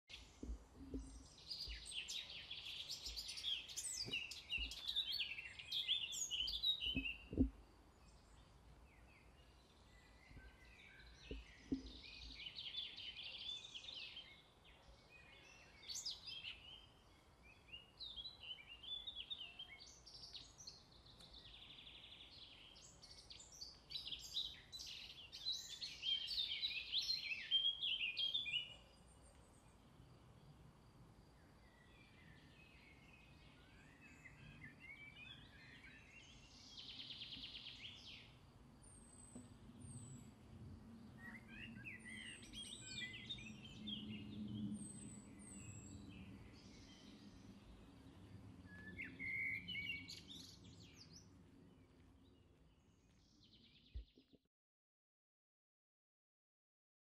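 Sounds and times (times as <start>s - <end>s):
small birds chirping: 0.0s - 30.2s, 30.8s - 40.4s, 41.0s - 54.4s.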